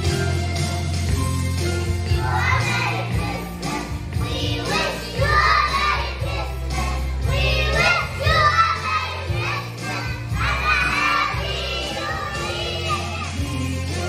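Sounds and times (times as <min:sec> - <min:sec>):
backing music with bass line: 0:00.0 - 0:14.0
children singing: 0:02.0 - 0:14.0.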